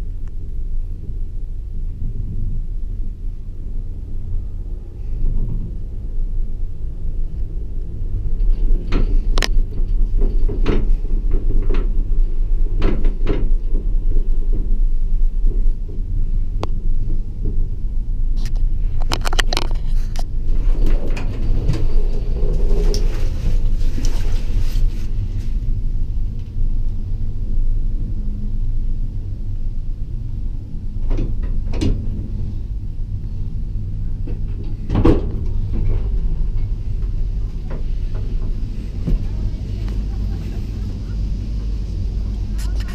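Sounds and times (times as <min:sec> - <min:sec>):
gondola cabin rumble: 0:00.0 - 0:42.9.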